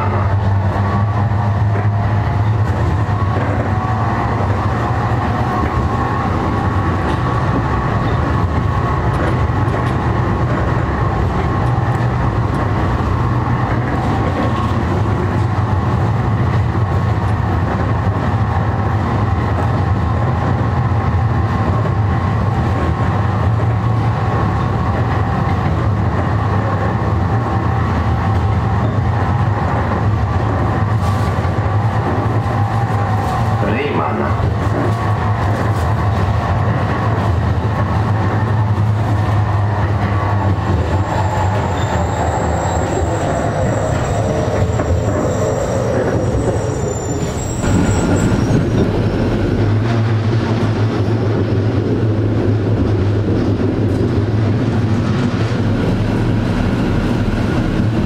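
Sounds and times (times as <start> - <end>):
tram motor humming: 0.0 - 58.0.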